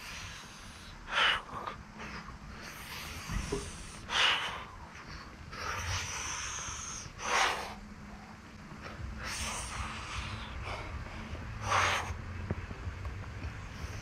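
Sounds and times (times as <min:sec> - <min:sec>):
man breathing hard: 0:00.0 - 0:12.4
low hum: 0:00.0 - 0:14.0.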